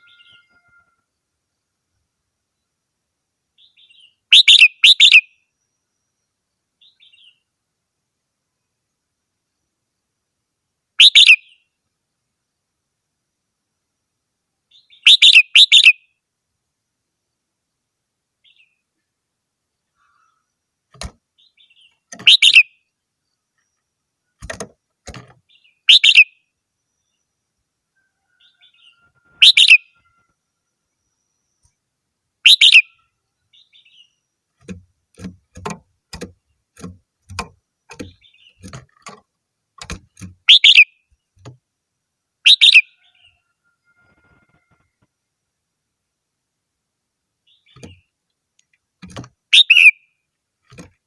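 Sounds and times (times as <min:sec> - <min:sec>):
bird singing bright phrases: 0:00.0 - 0:07.6, 0:11.0 - 0:12.8, 0:14.6 - 0:41.6, 0:42.4 - 0:45.0, 0:47.4 - 0:50.4.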